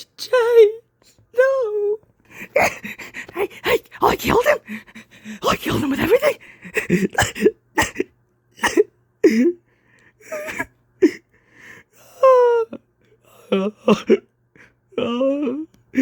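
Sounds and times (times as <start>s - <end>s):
man crying: 1.4s - 9.6s, 10.2s - 11.3s, 11.9s - 16.0s
sobbing gasps: 2.2s - 16.0s.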